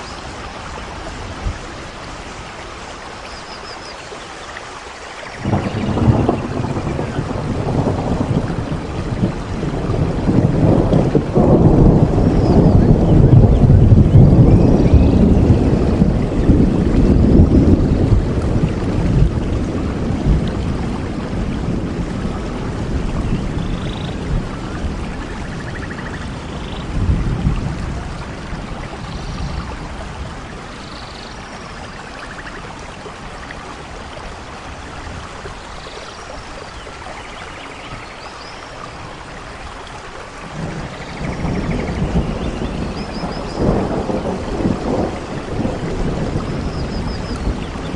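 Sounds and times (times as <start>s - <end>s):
steady rain: 0.0s - 47.9s
low rumble of thunder: 5.3s - 47.9s.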